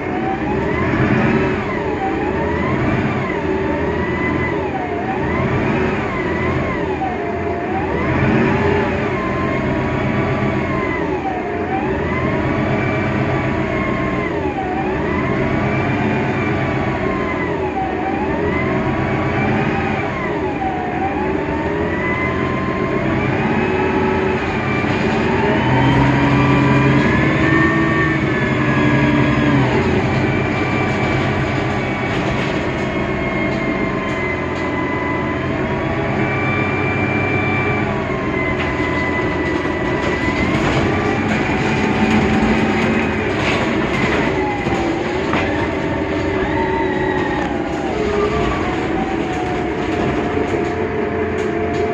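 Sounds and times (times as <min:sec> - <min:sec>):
bus diesel engine drone: 0:00.0 - 0:51.9.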